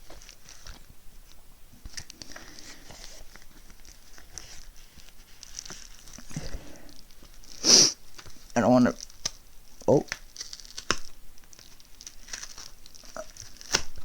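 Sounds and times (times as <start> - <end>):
packaging clicks and scratches: 1.8 - 14.0.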